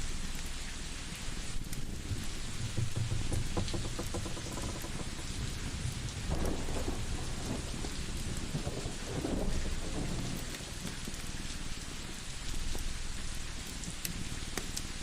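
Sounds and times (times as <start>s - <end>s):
rain hiss: 0.0s - 15.0s
wood fire crackling: 0.0s - 15.0s
low rumble of thunder: 1.5s - 14.4s.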